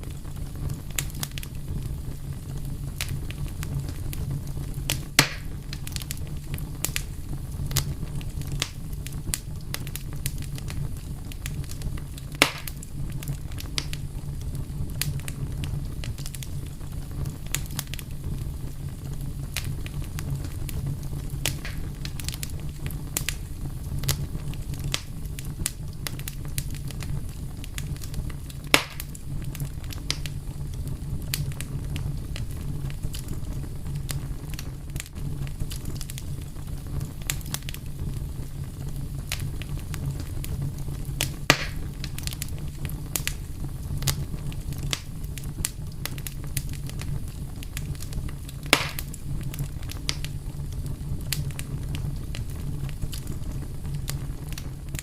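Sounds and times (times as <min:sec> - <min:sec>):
fire crackling: 0:00.0 - 0:55.0
fire pops: 0:00.0 - 0:55.0.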